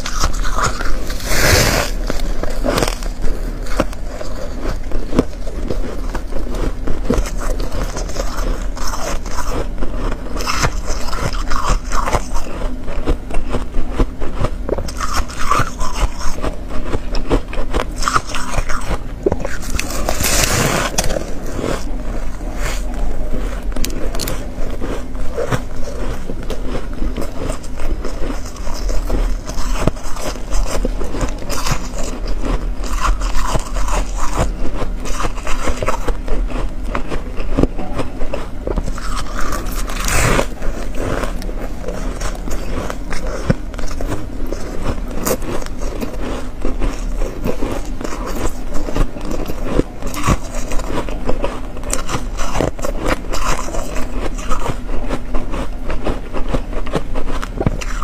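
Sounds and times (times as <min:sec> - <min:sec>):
ice being crunched and chewed: 0:00.0 - 0:58.0.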